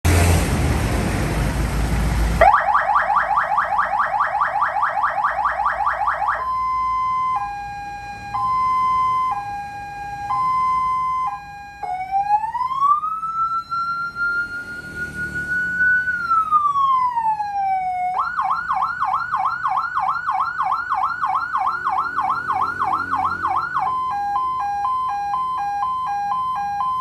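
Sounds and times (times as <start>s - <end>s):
electronic vehicle siren: 2.4s - 27.0s.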